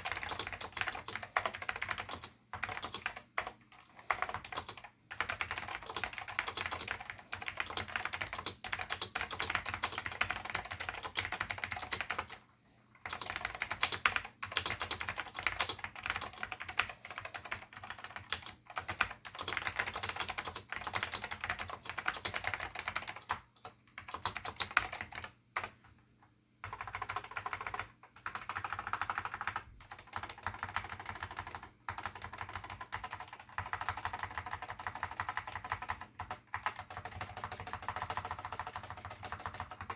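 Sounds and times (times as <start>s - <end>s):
typing on mechanical keyboard: 0.0s - 25.9s, 26.6s - 39.9s.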